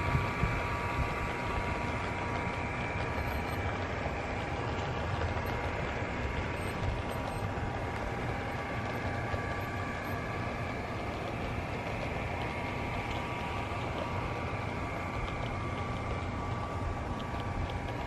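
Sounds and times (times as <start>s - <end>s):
model locomotive motor hum: 0.0s - 18.0s.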